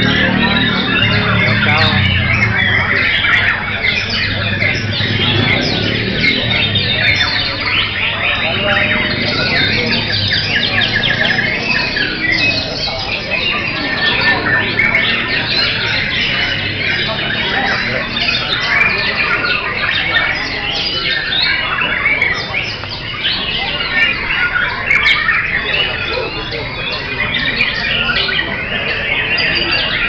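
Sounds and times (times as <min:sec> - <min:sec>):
songbirds whistling and chirping: 0:00.0 - 0:30.0.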